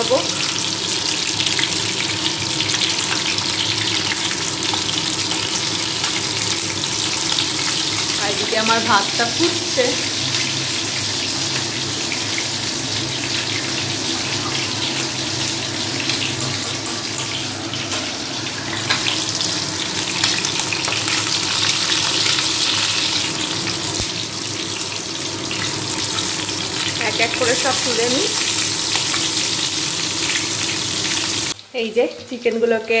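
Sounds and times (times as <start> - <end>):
rice pot boiling: 0.0 - 31.8
chicken frying in hot oil: 0.0 - 33.0.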